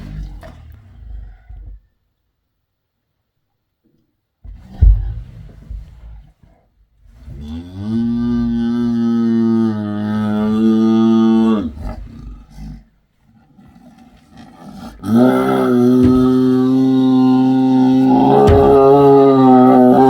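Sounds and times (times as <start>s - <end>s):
big cat low calls: 0.0s - 1.9s, 4.5s - 20.0s.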